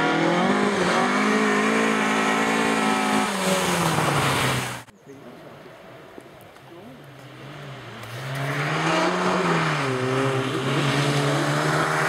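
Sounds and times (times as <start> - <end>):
rally car engine at high revs: 0.0 - 4.9, 7.2 - 12.0.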